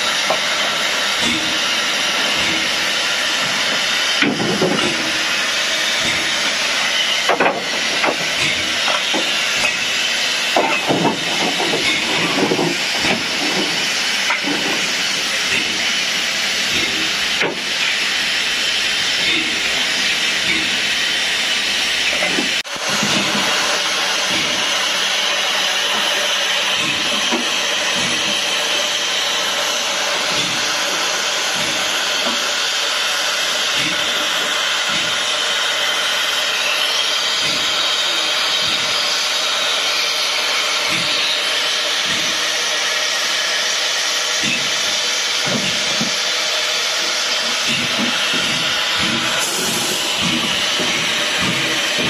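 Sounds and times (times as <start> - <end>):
steam hissing from valve: 0.0 - 52.0.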